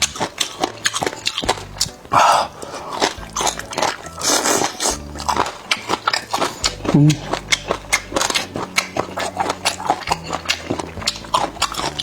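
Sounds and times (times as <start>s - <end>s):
crunching and slurping: 0.0s - 12.0s
person biting and chewing: 0.0s - 12.0s
wet mouth clicks and smacks: 0.0s - 12.0s.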